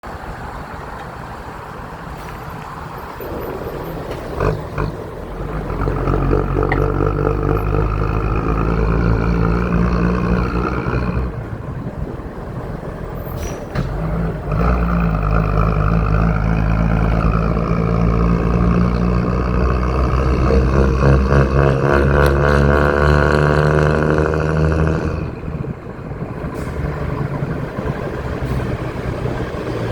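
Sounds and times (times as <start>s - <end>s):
diesel truck engine rumbling: 0.0s - 29.9s.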